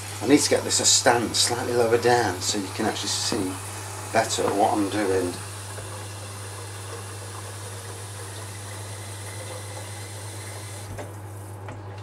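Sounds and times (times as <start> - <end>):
tap water filling a kettle: 0.0 - 12.0.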